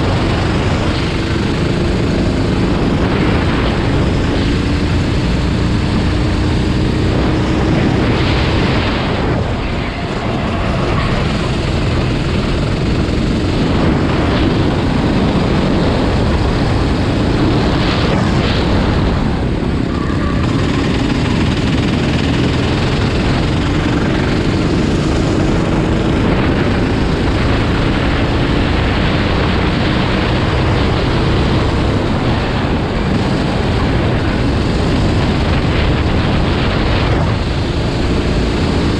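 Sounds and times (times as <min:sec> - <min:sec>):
racing engines roaring: 0:00.0 - 0:38.9.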